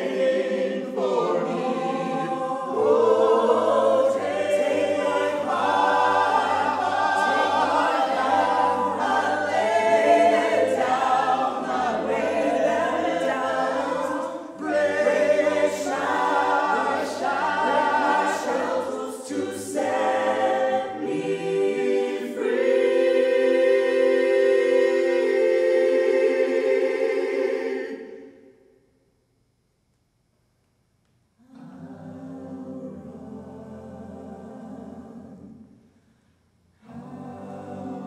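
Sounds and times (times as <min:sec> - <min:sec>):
mixed choir singing a cappella: 0:00.0 - 0:28.6, 0:31.4 - 0:35.9, 0:36.8 - 0:38.0.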